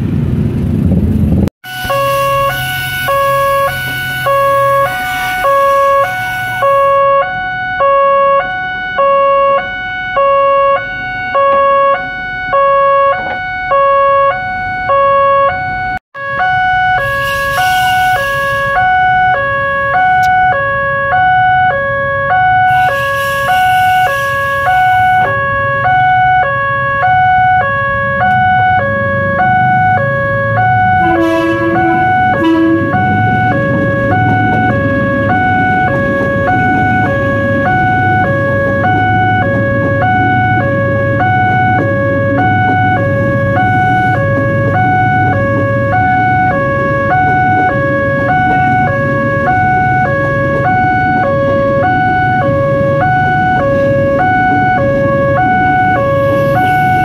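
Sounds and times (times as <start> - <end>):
motorcycle traffic: 0.0 - 7.8, 8.4 - 57.0
level crossing two-tone alarm: 1.6 - 57.0.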